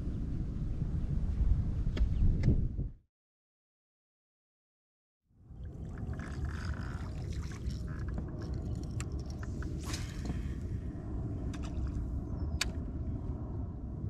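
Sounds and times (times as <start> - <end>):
wind rumble on microphone: 0.0 - 3.0, 5.4 - 14.0.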